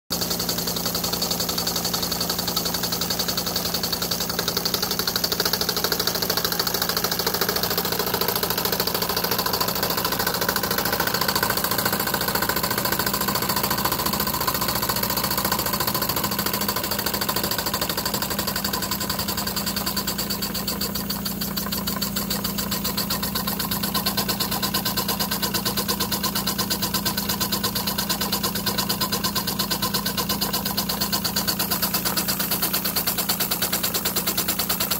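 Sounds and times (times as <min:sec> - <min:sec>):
toy steam engine beating: 0:00.1 - 0:34.9.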